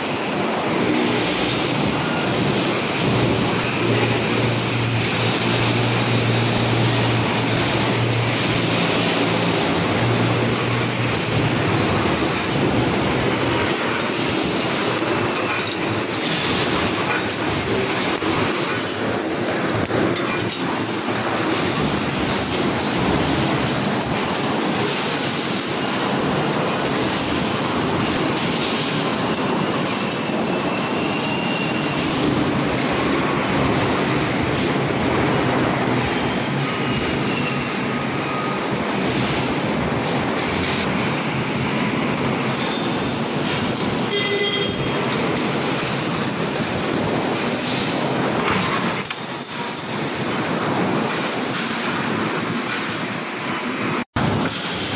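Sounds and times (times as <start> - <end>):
welding machine mechanical clatter: 0.0 - 54.9.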